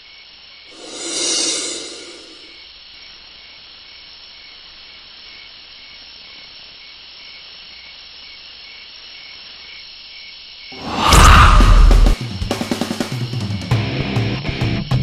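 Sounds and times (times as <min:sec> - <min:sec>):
constant high cricket trill: 0:00.0 - 0:15.0
pulsing cricket chirp: 0:00.0 - 0:15.0.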